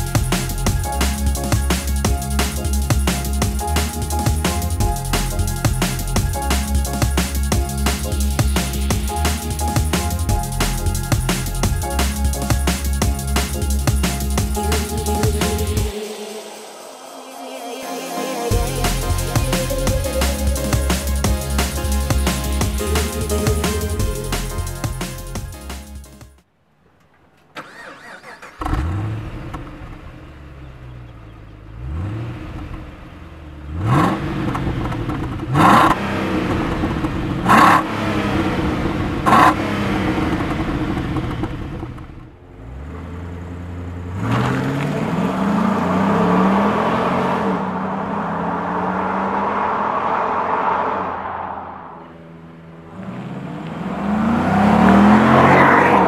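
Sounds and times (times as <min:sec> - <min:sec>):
car engine starting and revving: 0:00.0 - 0:17.4, 0:18.5 - 0:26.2, 0:27.4 - 0:56.0
car accelerating: 0:00.0 - 0:26.2, 0:27.6 - 0:56.0.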